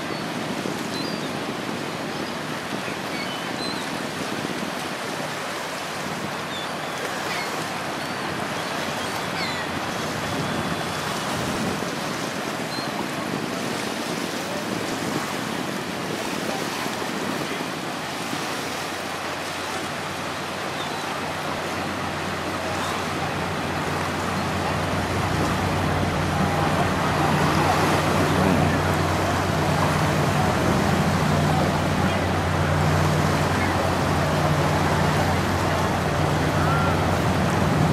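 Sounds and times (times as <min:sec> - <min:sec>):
boat engine hum: 0:00.0 - 0:37.9
river water lapping and splashing: 0:00.0 - 0:37.9
wind on microphone: 0:00.0 - 0:37.9.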